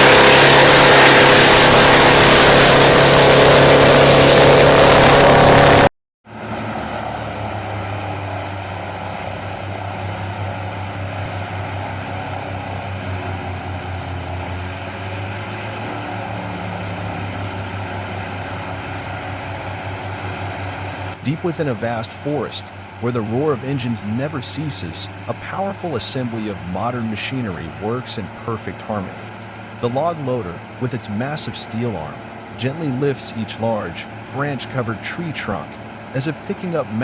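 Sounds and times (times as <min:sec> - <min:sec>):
machine engine humming: 0:00.0 - 0:37.0
wood chipper grinding roar: 0:00.0 - 0:37.0.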